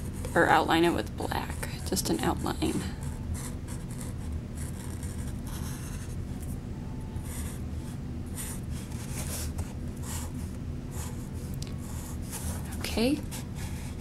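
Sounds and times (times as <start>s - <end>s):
marker scratching on paper cup: 0.0s - 6.2s, 7.2s - 10.3s, 10.9s - 14.0s
steady low hum: 0.0s - 14.0s.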